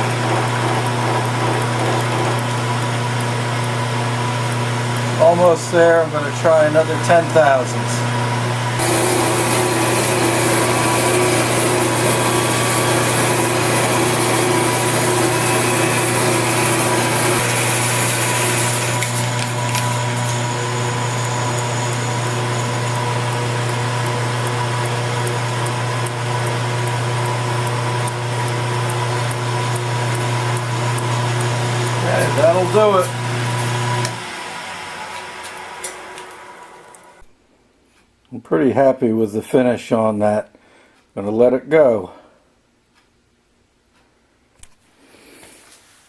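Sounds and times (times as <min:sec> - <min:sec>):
milling machine motor hum: 0:00.0 - 0:37.3.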